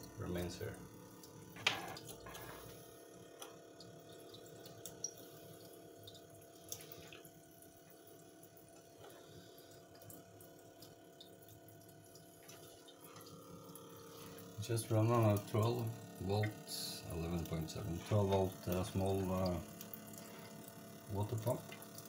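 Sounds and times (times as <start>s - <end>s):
water drips: 0.0s - 22.0s
water pump humming: 0.0s - 22.0s
water trickling into drain: 0.0s - 22.0s.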